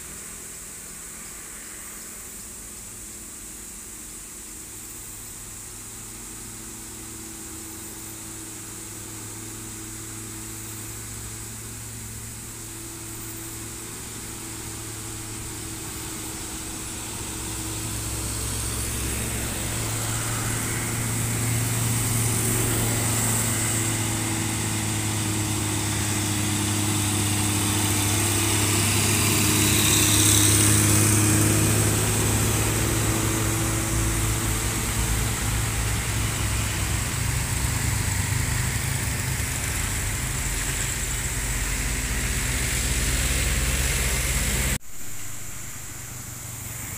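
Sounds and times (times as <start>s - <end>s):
dump truck diesel engines: 0.0s - 46.9s.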